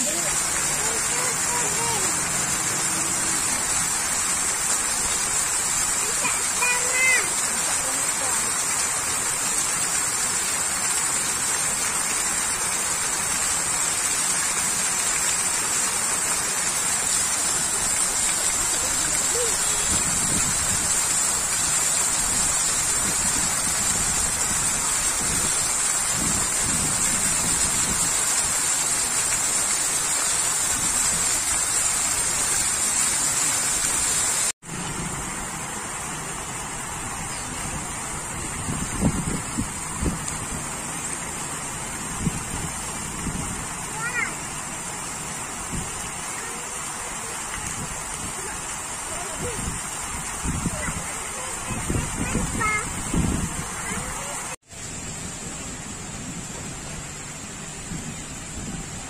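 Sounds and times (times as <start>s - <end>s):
fountain water splashing into pool: 0.0s - 59.0s.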